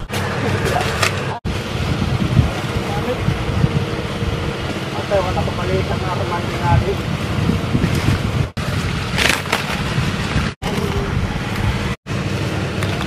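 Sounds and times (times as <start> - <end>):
wind buffeting microphone: 1.3 - 12.0.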